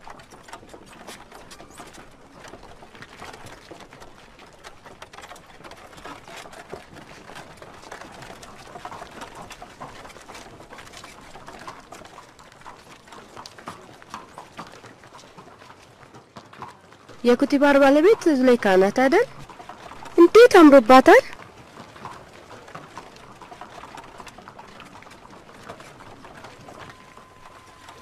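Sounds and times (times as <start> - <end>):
clatter of clops and knocks: 0.0 - 17.2, 19.4 - 20.2, 21.4 - 28.0.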